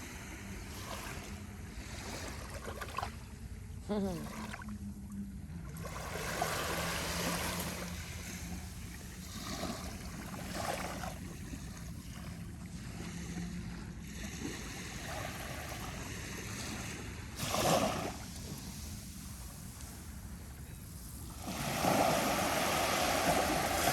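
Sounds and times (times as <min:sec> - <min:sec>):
small waves washing on beach: 0:00.0 - 0:03.2, 0:05.6 - 0:23.9.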